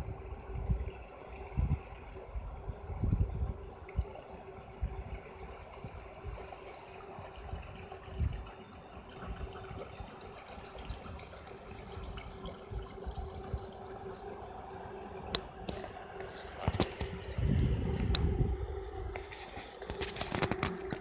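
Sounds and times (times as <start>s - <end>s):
boat churning water: 0.0s - 21.0s
faint motor hum: 0.0s - 21.0s.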